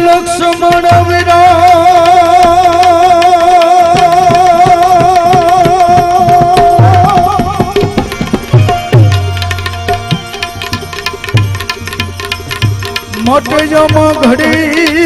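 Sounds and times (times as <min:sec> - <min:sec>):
tabla strokes: 0:00.0 - 0:15.0.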